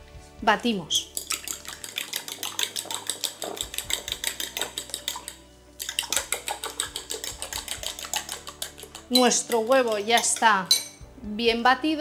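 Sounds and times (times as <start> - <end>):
fork clinking against bowl: 1.2 - 11.0.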